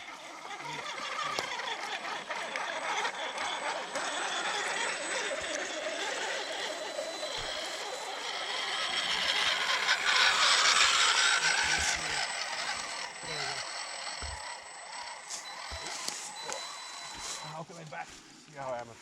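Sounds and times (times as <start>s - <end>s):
toy truck motor hiss: 0.0s - 17.6s.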